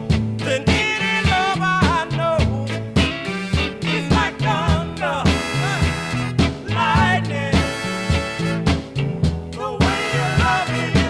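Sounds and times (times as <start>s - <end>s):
upbeat soul-funk band music: 0.0s - 11.0s.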